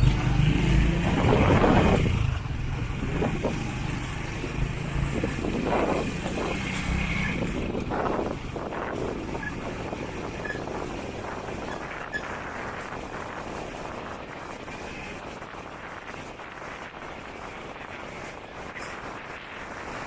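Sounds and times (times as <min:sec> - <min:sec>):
motorcycle engine: 0:00.0 - 0:19.8
wind buffeting microphone: 0:00.0 - 0:20.0.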